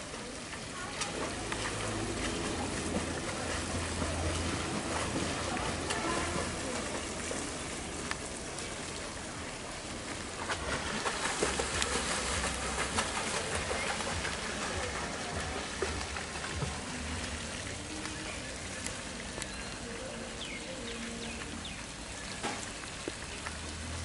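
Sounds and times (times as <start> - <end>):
swimming pool water splashing: 0.0 - 24.0.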